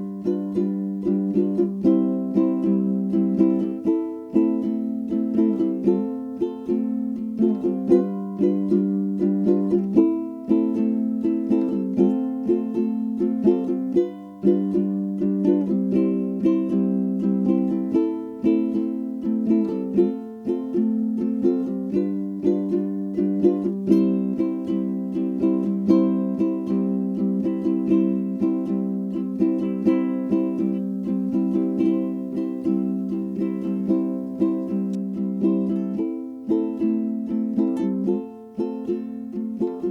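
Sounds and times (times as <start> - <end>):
ukulele plucking a bright tune: 0.0 - 39.9.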